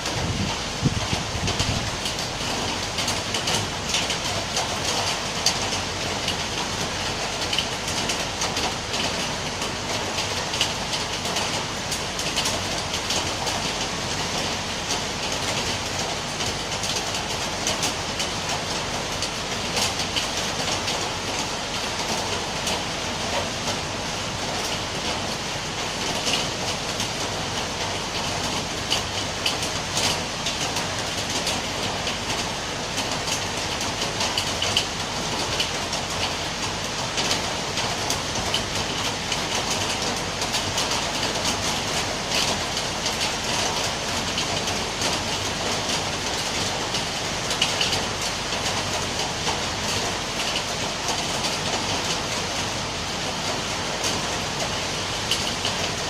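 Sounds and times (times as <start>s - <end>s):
rain drops pattering: 0.0s - 56.0s.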